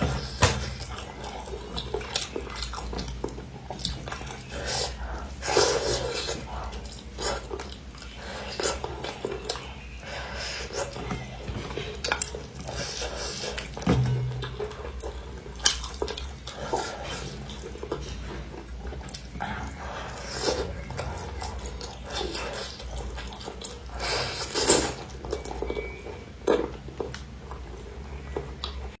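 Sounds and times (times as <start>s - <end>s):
wet chewing and sucking: 0.0s - 28.9s.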